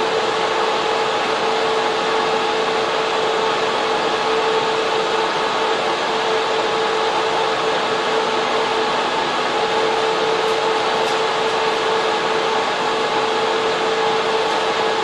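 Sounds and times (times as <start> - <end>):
server cooling fans rushing: 0.0 - 15.0.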